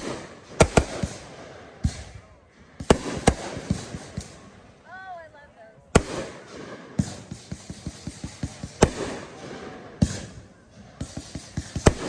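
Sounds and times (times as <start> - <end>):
fireworks booming: 0.0 - 5.2, 5.9 - 12.0
fireworks crackling pops: 0.0 - 5.2, 6.0 - 12.0.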